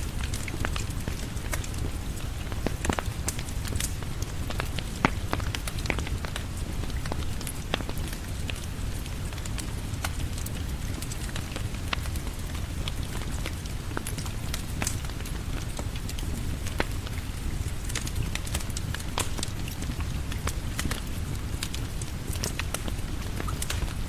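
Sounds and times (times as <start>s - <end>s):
steady rain: 0.0s - 24.0s
wood fire crackling: 0.0s - 24.0s.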